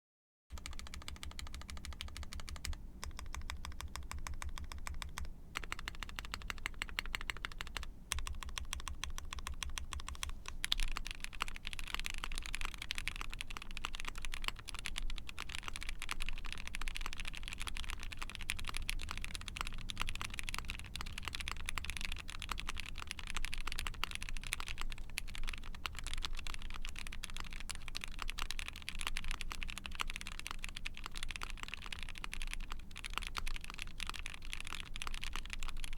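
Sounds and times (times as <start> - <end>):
fast mechanical keyboard typing: 0.5 - 35.9.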